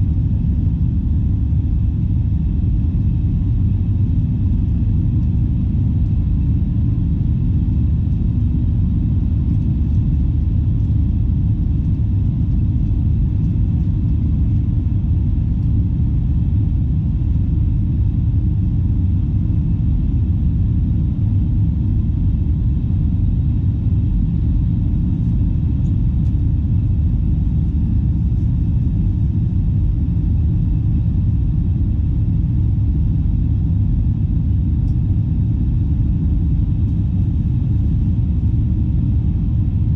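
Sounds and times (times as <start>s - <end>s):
faint steady hum: 0.0s - 39.9s
jet engines rumbling in cabin: 0.0s - 39.9s.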